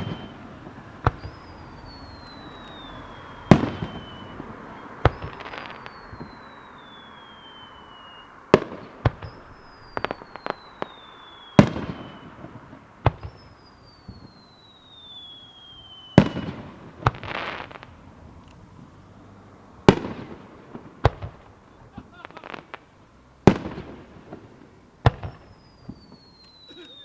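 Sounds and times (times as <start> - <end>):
firework pops and crackle: 0.0 - 18.9, 19.8 - 27.0
firework whistles: 0.0 - 19.2, 19.8 - 27.0
firework bangs: 0.0 - 27.0.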